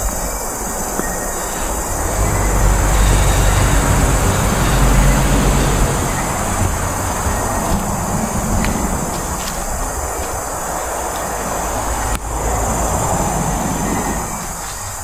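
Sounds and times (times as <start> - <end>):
steady hiss: 0.0 - 15.0
vehicle passing rumble: 0.5 - 15.0.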